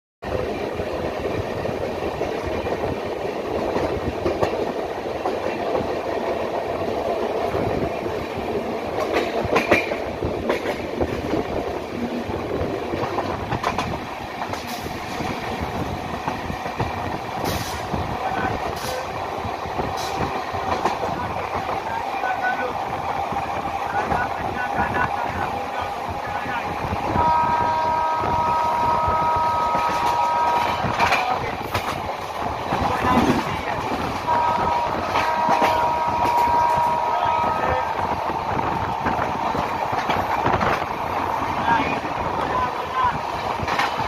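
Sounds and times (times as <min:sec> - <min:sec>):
train wheels rumbling on rail: 0:00.2 - 0:44.0.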